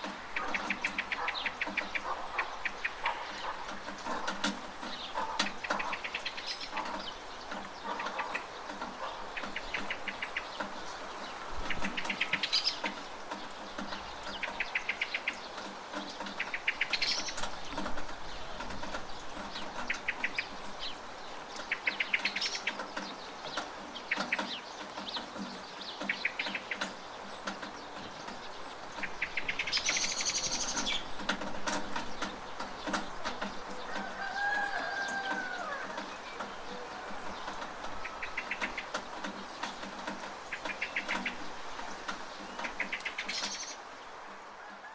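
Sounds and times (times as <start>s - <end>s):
birds chattering trills: 0.0s - 44.4s
steady rain falling: 0.0s - 44.9s.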